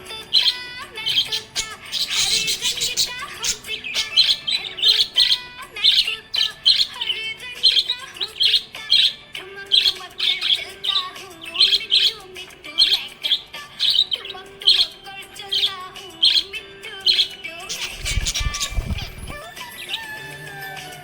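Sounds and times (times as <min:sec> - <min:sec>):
background music: 0:00.0 - 0:21.0
parrots chirping: 0:00.0 - 0:21.0.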